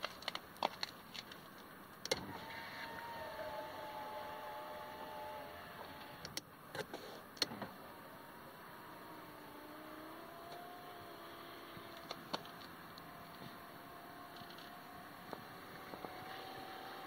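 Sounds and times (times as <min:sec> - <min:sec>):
power window motor whine: 0:02.1 - 0:06.3, 0:07.5 - 0:17.0.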